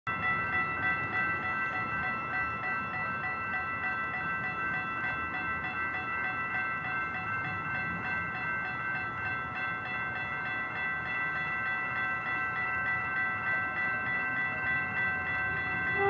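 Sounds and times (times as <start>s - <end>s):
crossing warning bell ringing: 0.1s - 16.0s.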